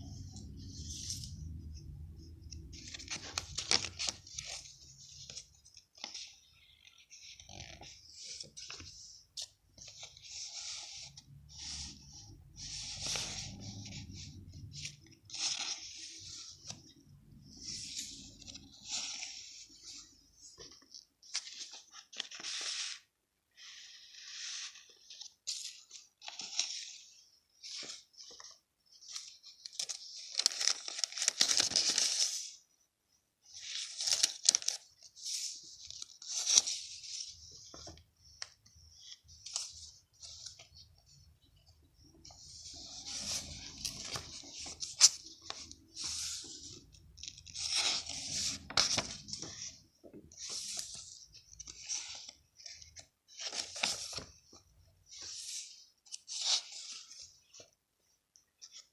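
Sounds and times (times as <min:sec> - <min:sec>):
paper rustling: 0:00.0 - 0:32.6, 0:33.4 - 0:57.8.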